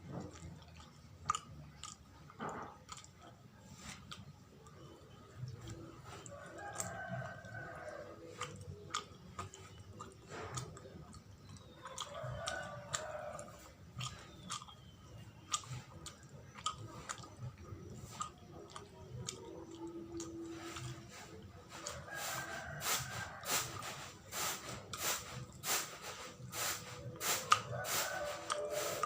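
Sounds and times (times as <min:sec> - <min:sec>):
close chewing of sticky food: 0:00.0 - 0:29.0.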